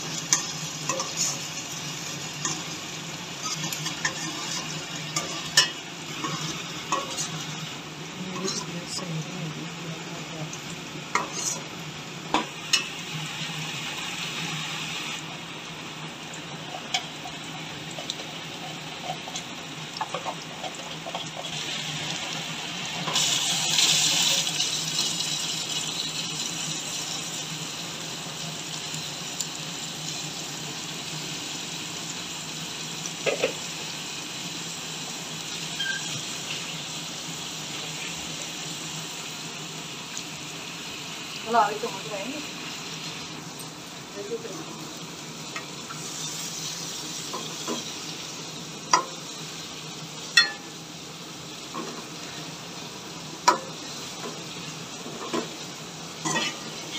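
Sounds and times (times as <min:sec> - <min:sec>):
onions sizzling in oil: 0:00.0 - 0:56.9.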